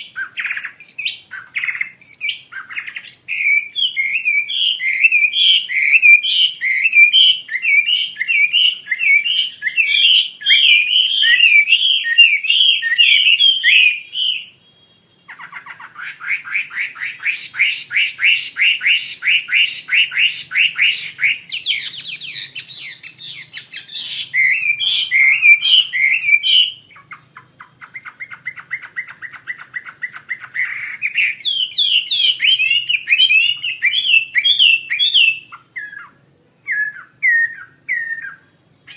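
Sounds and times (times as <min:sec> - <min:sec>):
bird singing with trills: 0:00.0 - 0:38.9.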